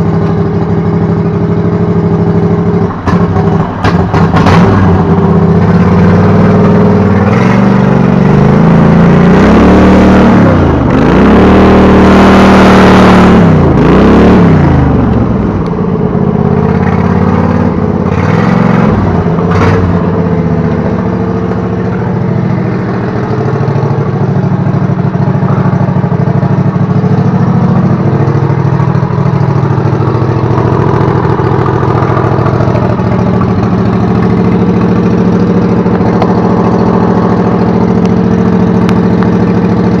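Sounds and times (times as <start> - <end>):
go-kart engine revving and idling: 0.0 - 40.0.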